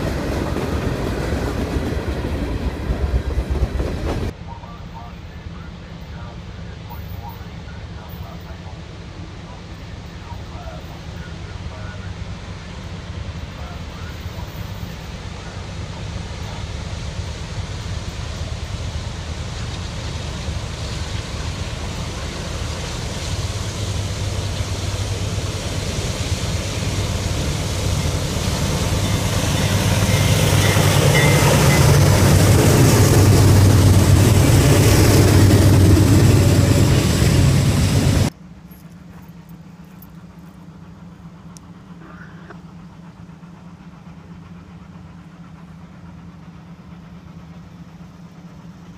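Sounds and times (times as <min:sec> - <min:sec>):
freight train passing: 0:00.0 - 0:48.9.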